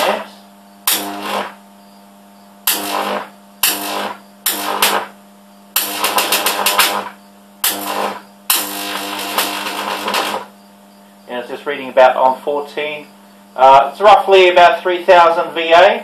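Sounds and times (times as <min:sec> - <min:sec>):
high-voltage arcs crackling: 0:00.0 - 0:01.7, 0:02.6 - 0:16.0
steady low hum: 0:00.0 - 0:16.0.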